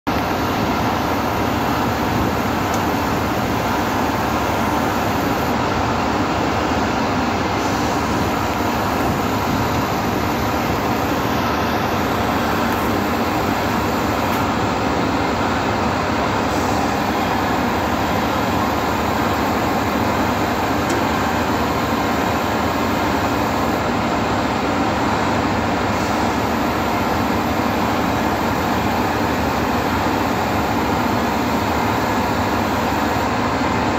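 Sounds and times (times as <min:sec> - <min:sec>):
concrete pump running: 0:00.1 - 0:33.9.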